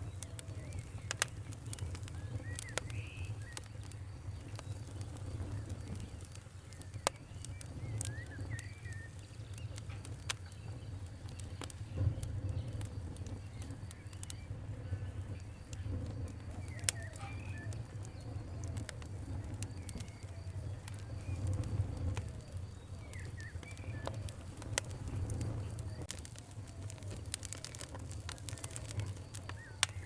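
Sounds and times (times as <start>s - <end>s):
fire pops: 0.0s - 30.0s
wood fire crackling: 0.0s - 30.0s.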